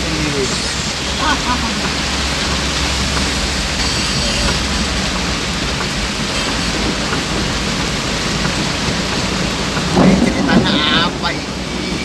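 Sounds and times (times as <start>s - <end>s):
heavy rain on a car: 0.0s - 12.0s
low rumble of car: 0.0s - 12.0s.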